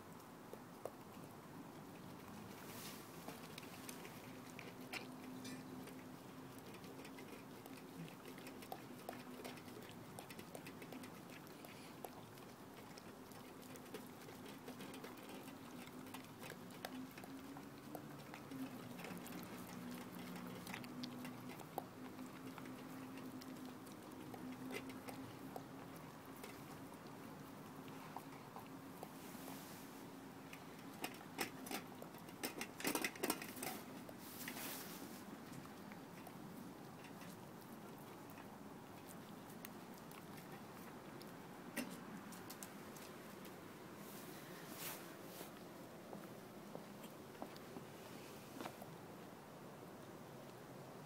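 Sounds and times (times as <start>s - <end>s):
dog chewing: 0.0s - 44.6s
faint steady hum: 0.0s - 51.0s.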